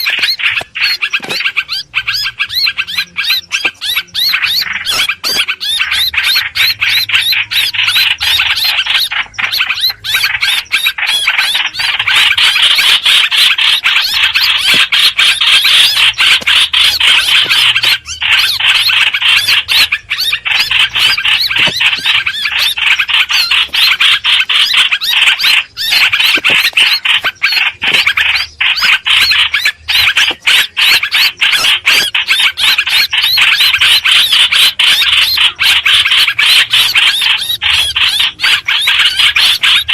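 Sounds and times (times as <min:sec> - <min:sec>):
bird calling shrill notes: 0:00.0 - 0:39.9.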